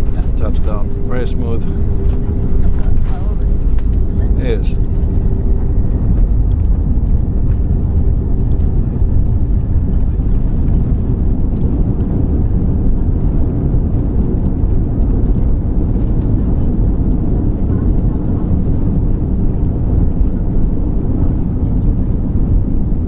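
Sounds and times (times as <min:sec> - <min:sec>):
engines and wheels rumbling: 0:00.0 - 0:23.0.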